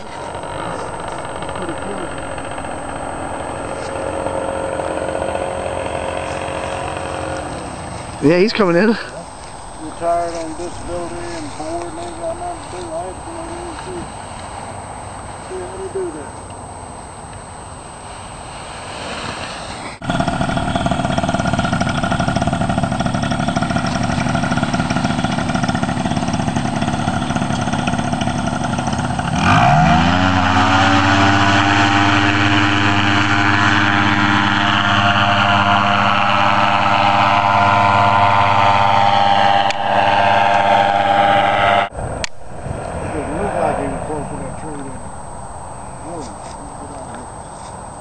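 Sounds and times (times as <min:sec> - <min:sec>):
paramotor engine buzzing drone: 0:00.0 - 0:48.0.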